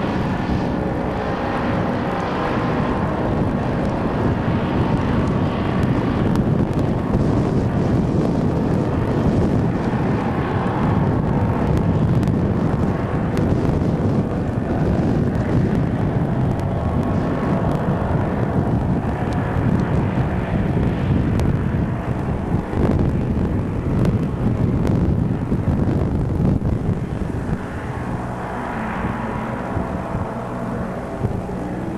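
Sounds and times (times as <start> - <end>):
propeller engines droning: 0.0 - 31.9
wind rumbling on microphone: 0.0 - 31.9.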